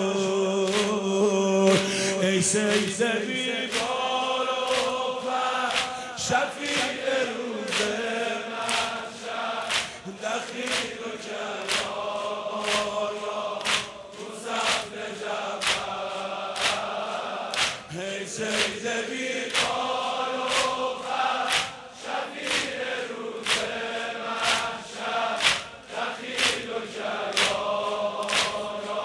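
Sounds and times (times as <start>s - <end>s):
crowd of men chanting: 0.0s - 29.0s
sharp rhythmic strikes: 0.6s - 29.0s.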